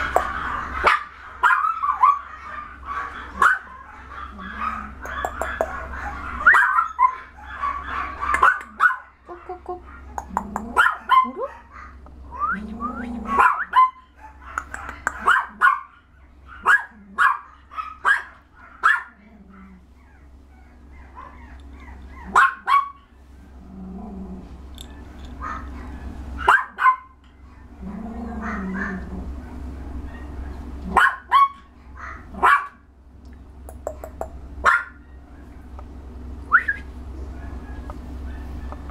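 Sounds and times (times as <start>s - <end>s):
puppy yapping: 0.0s - 23.5s, 24.8s - 32.9s, 34.0s - 35.8s, 36.5s - 38.9s.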